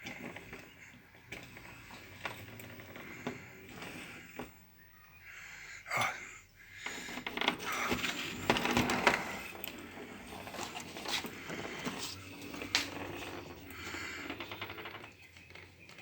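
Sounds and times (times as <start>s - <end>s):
wheels clicking over rail gaps: 0.0s - 5.4s, 6.8s - 16.0s.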